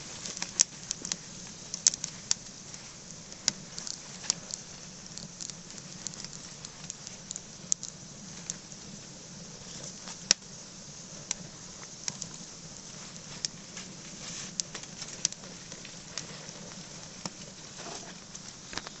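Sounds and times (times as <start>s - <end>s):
branches and leaves burning: 0.0s - 19.0s
fire crackling with sharp pops: 0.0s - 19.0s.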